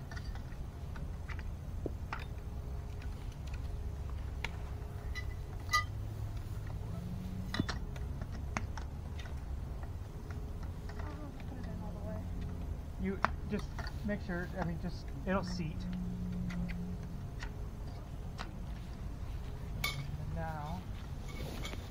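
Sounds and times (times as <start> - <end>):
frame poles clicking and knocking: 0.0 - 21.9
low steady rumble: 0.0 - 21.9.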